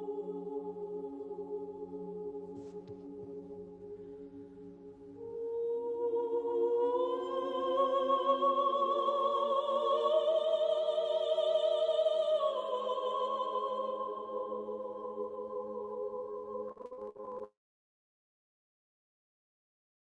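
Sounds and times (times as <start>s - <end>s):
slow hymn singing with vibrato: 0.0s - 17.5s.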